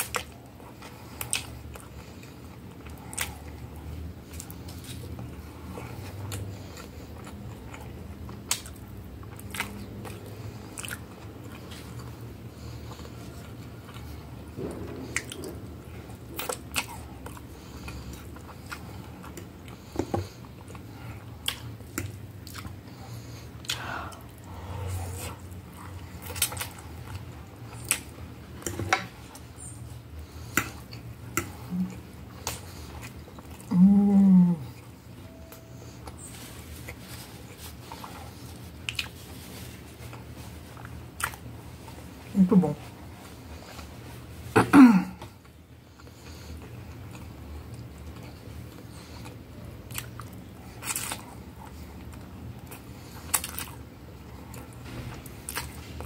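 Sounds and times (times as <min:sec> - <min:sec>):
chewing and mouth sounds: 0:00.0 - 0:42.3, 0:45.1 - 0:56.0.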